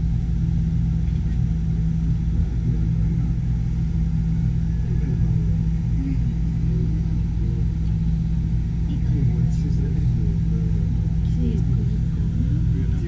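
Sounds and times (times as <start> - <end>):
low hum and rumble: 0.0 - 13.0
muffled voices: 0.8 - 13.0.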